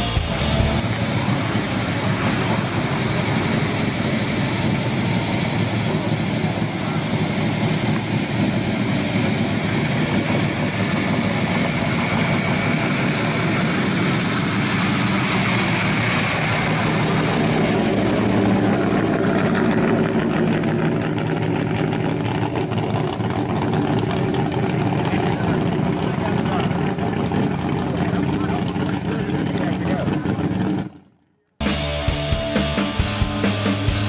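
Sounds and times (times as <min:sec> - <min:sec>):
pickup truck engine passing slowly: 0:00.0 - 0:31.2.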